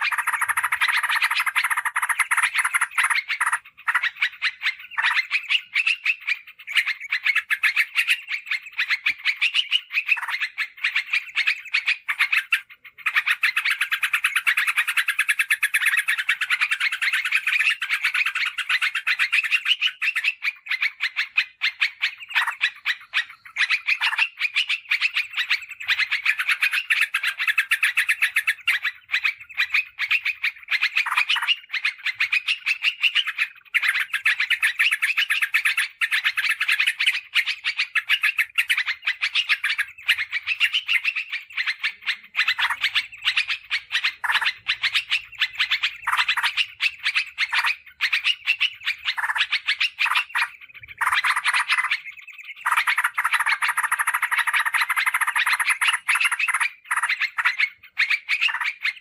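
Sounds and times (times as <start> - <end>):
bulbul rapid chattering calls: 0.0 - 59.0.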